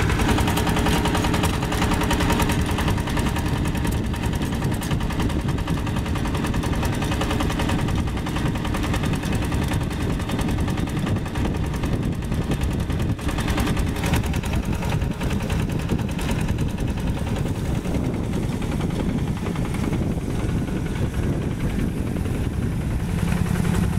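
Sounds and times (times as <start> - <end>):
diesel tractor engine chugging: 0.0 - 23.9
rotary tiller working soil: 0.0 - 23.9.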